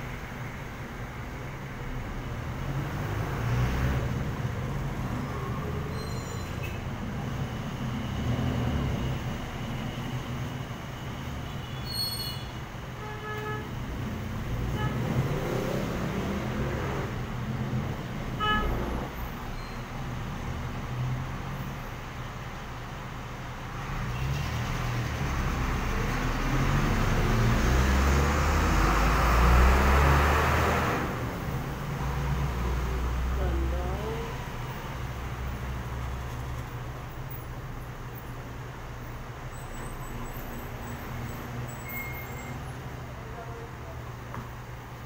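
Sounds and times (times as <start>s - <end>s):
traffic engines passing: 0.0s - 45.0s.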